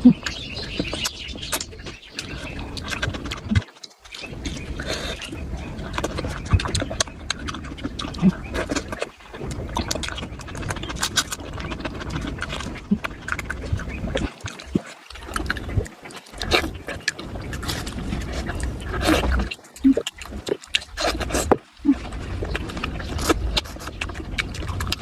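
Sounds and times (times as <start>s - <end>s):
wet chewing and lip smacking: 0.0s - 25.0s.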